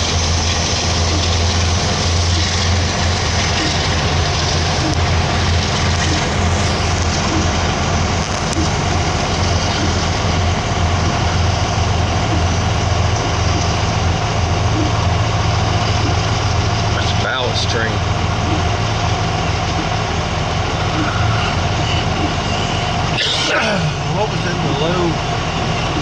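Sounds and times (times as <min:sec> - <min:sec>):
freight train rumbling past: 0:00.0 - 0:26.0
low engine hum: 0:00.0 - 0:26.0.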